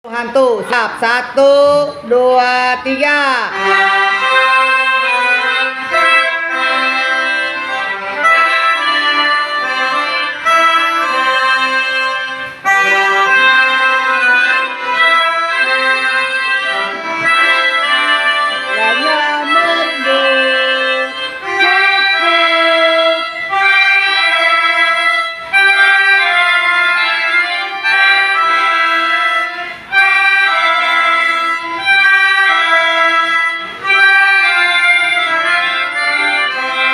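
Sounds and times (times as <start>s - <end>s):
free-reed instrument melody: 3.0s - 36.9s.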